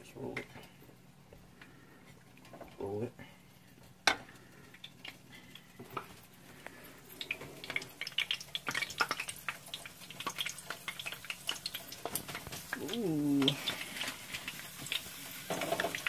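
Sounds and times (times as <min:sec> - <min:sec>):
oil crackling in frying pan: 0:00.0 - 0:16.0.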